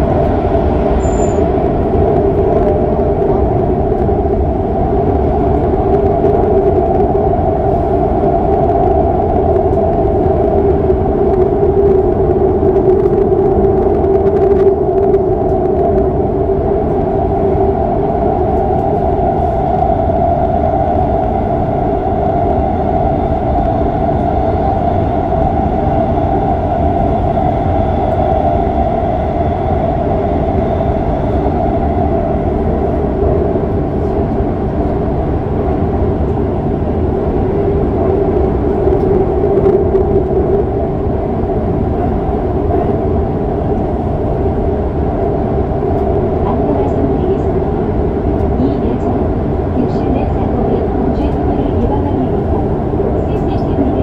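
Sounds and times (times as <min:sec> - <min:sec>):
subway train rumbling in tunnel: 0:00.0 - 0:54.0.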